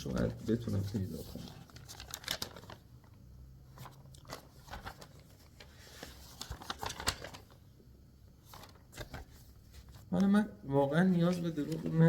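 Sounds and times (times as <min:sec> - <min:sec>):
paper rustling and crinkling: 0:00.0 - 0:07.6, 0:08.4 - 0:10.3, 0:11.3 - 0:12.0.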